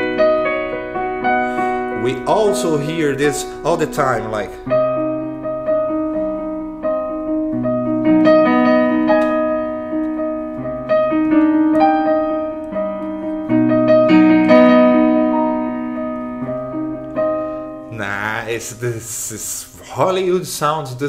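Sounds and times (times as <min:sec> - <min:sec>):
piano chords played slowly: 0:00.0 - 0:21.0.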